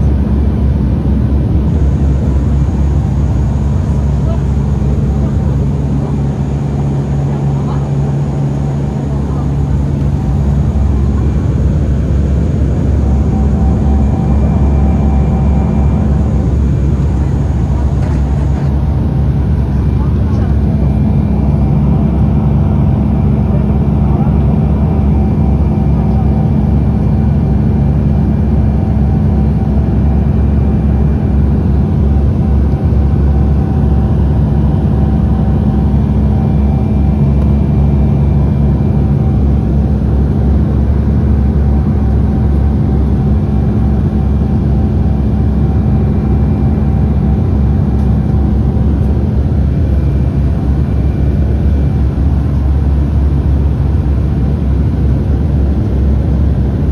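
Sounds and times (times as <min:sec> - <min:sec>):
low hum: 0:00.0 - 0:56.9
propeller drone in cabin: 0:00.0 - 0:56.9.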